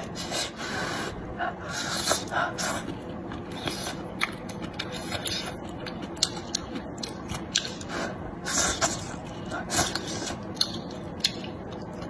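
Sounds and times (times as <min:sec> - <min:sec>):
chewing noodles: 0:01.7 - 0:12.0.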